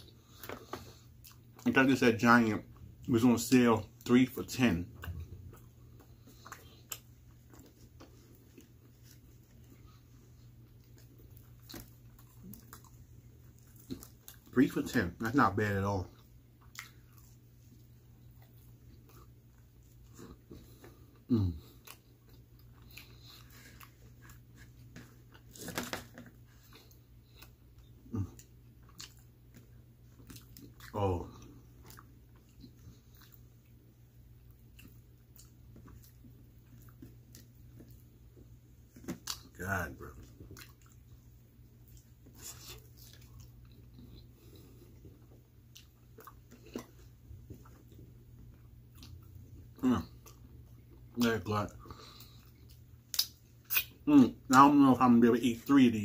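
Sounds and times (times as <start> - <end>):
person chewing pizza: 0.0 - 55.7
faint low hum: 0.0 - 56.0.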